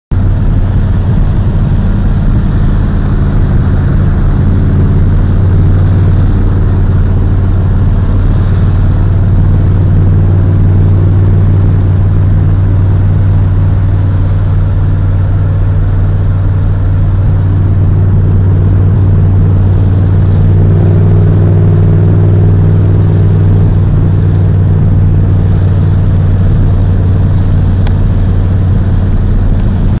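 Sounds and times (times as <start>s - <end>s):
car engine drone from inside cabin: 0.1s - 30.0s.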